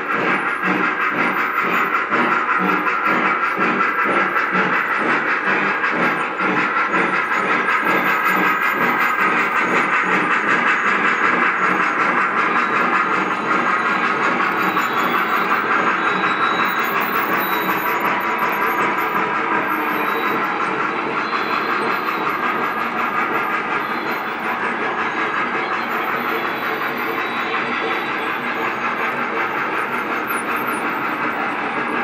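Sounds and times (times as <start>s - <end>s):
model steam train chuffing: 0.0s - 32.0s
model trains rolling on rails: 0.0s - 32.0s.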